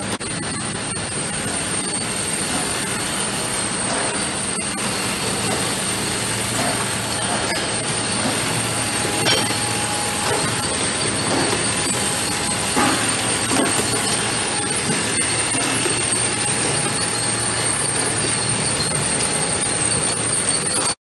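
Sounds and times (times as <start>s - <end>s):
bottle conveyors and motors running: 0.0s - 21.0s.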